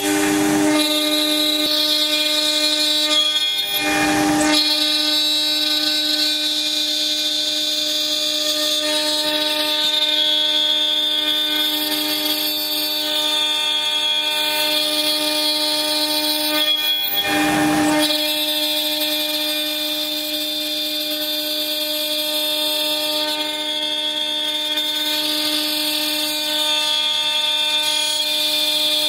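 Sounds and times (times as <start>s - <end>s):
cnc router spindle whine: 0.0s - 29.0s.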